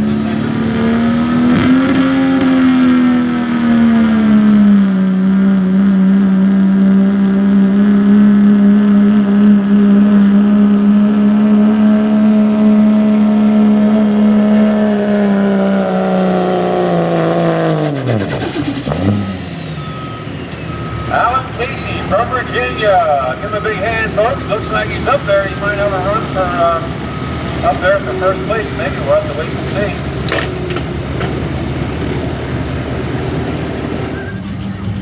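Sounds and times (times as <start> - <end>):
truck engine at high revs: 0.0 - 35.0
high whine winding down: 0.3 - 34.5.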